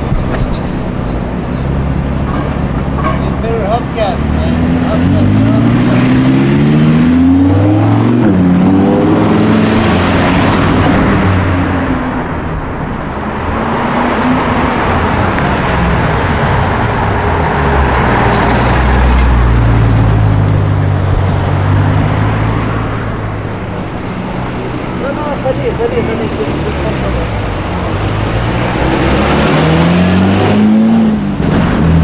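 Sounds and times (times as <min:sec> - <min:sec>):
road and tyre noise: 0:00.0 - 0:32.0.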